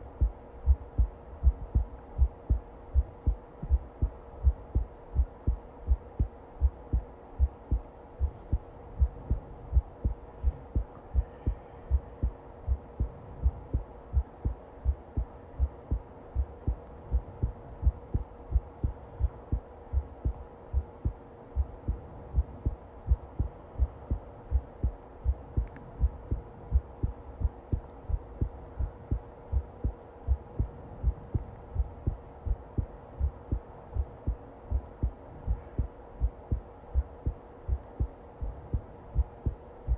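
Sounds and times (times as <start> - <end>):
faint steady hum: 0.0 - 39.9
heartbeat thumps: 0.0 - 39.9.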